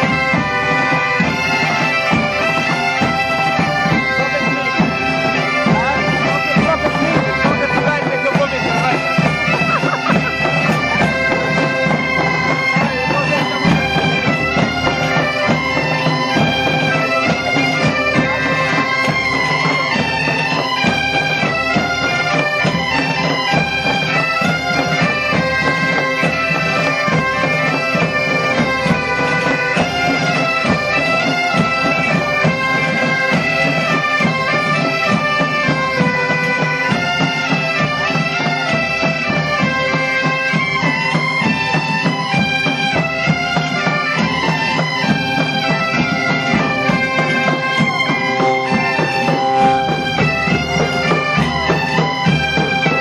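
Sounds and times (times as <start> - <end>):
bagpipe band playing: 0.0 - 53.0
drums beating: 0.0 - 53.0.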